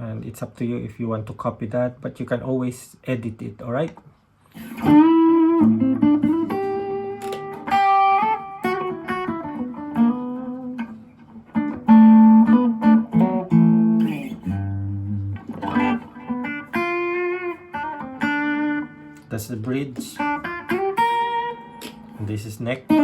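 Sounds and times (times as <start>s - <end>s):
overdriven electric guitar lead: 4.6s - 23.0s.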